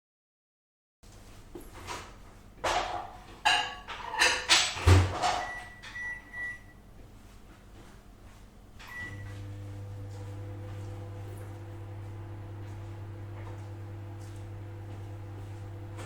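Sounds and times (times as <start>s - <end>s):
microwave running hum: 1.1s - 16.0s.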